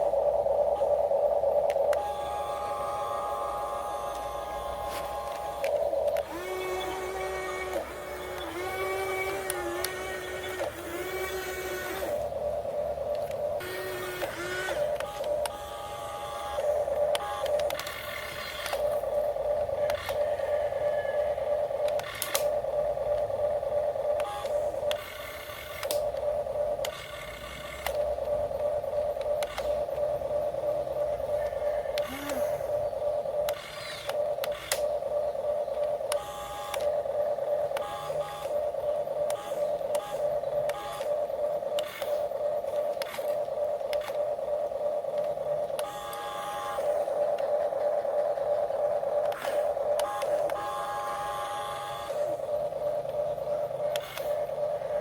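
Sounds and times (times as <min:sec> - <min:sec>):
small electric motors whining: 0:01.6 - 0:55.0.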